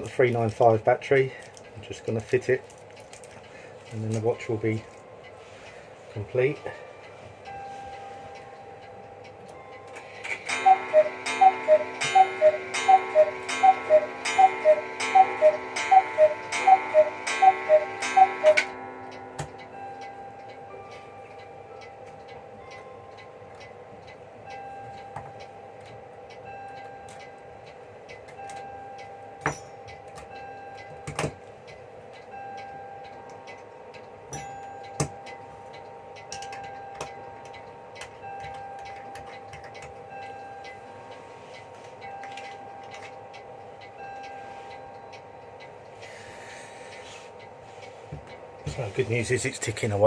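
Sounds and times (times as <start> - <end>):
steady background hum: 0.0 - 50.0.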